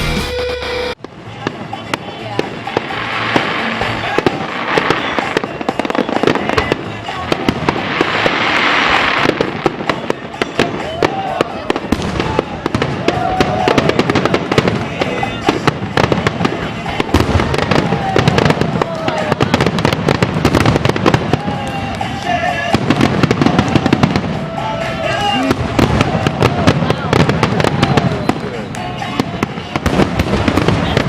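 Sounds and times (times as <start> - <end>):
fireworks hissing: 0.0 - 31.0
fireworks whistles: 0.0 - 31.0
fireworks bangs and crackles: 1.0 - 31.0.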